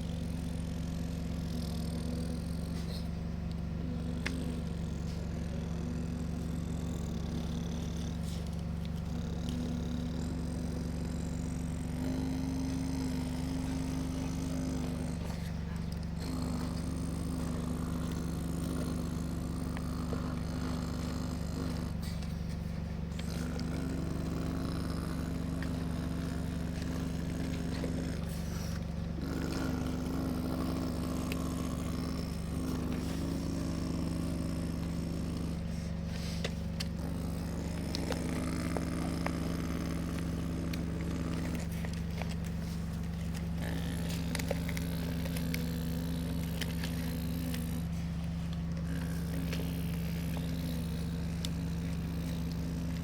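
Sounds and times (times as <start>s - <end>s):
excavator motor running: 0.0s - 53.0s.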